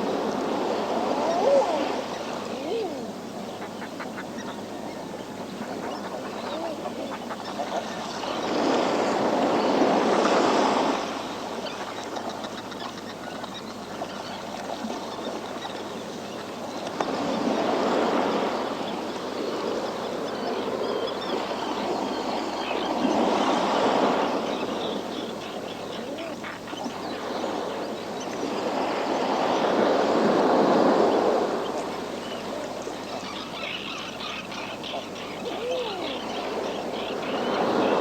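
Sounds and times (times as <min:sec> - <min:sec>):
waves surging on rocky shore: 0:00.0 - 0:12.2, 0:16.4 - 0:38.0.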